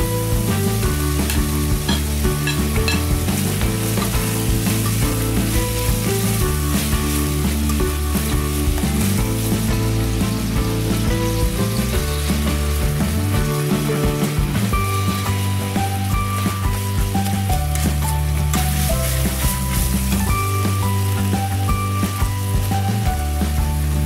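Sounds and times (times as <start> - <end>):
meat sizzling in a pot: 0.0 - 24.0.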